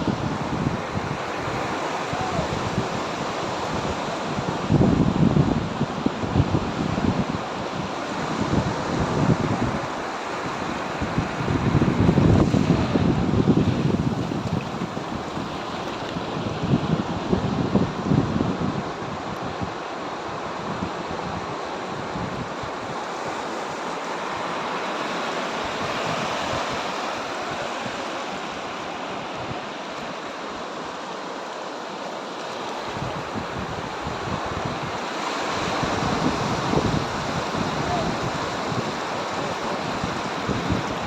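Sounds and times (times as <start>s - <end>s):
wind rumbling on microphone: 0.0s - 24.8s, 25.5s - 31.0s, 32.7s - 41.0s
surf washing onto beach: 0.0s - 41.0s.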